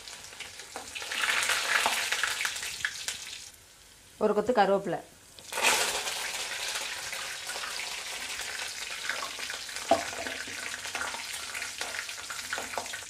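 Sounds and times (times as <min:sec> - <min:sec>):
leaves sizzling in hot oil: 0:00.0 - 0:03.6, 0:05.3 - 0:13.0.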